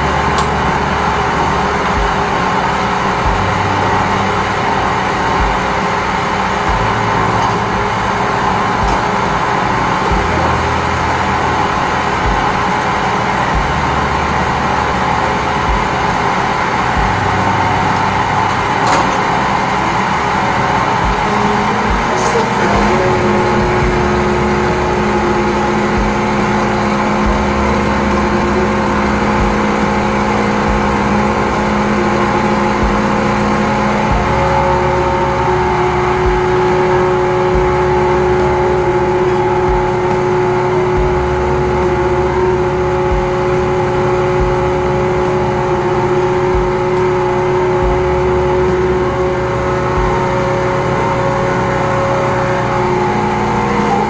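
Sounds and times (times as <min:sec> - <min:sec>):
drain jetting machine running: 0:00.0 - 0:54.0.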